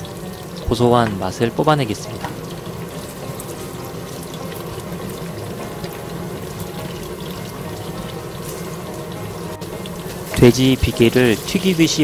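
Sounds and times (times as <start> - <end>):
fat sizzling in hot oil: 0.0 - 12.0.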